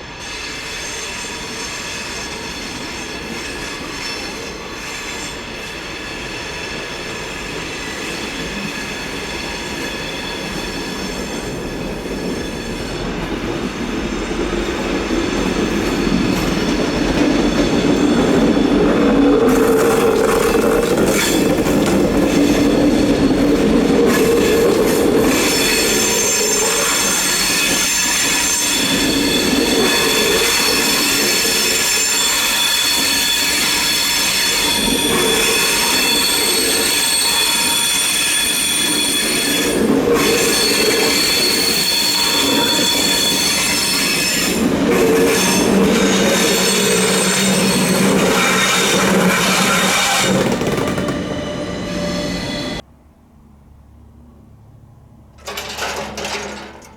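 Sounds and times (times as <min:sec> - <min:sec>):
train wheels squealing on curve: 0:00.0 - 0:52.8
rumble of rolling train: 0:00.0 - 0:56.9.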